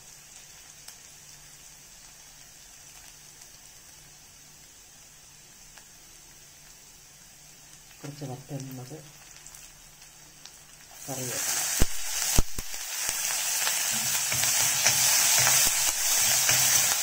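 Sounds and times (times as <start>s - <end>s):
leaves sizzling in hot oil: 0.0s - 17.0s.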